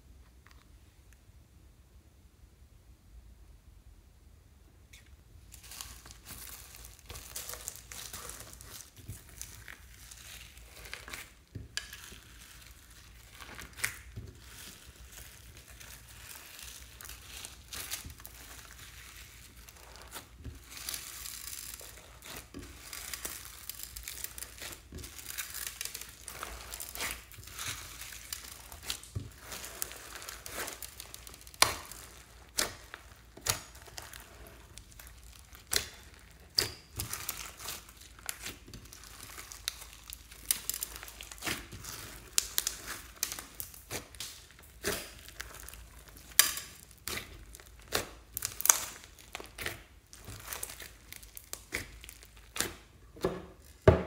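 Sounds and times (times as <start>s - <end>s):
slime crackling and popping: 5.4s - 54.0s.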